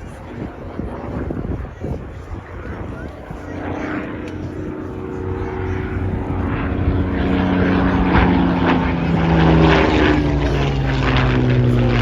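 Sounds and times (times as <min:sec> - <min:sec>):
propeller aircraft passing overhead: 0:00.0 - 0:12.0.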